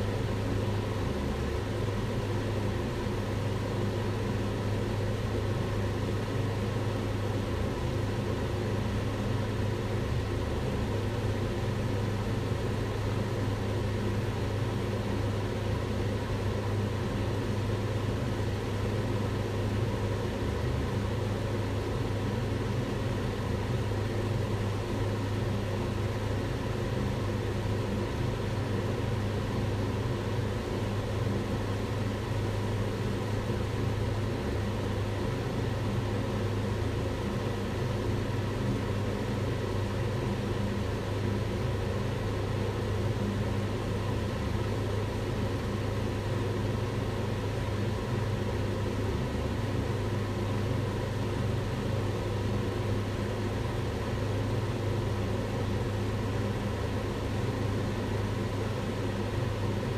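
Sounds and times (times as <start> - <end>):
extractor hood fan running: 0.0 - 59.9.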